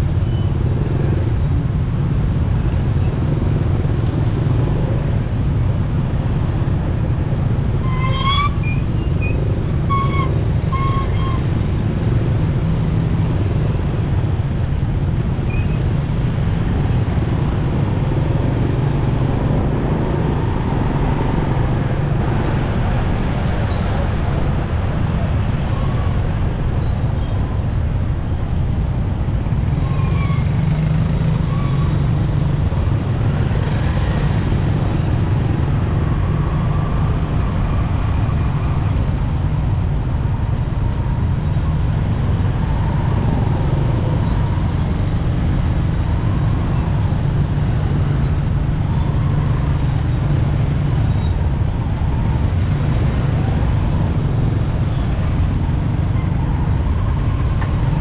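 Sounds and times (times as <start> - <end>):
motorcycle engine and wind rumble: 0.0 - 58.0
vehicles in traffic: 0.0 - 58.0.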